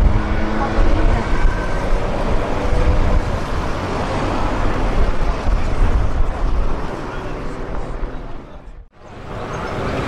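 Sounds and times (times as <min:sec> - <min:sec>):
traffic driving past: 0:00.0 - 0:10.0.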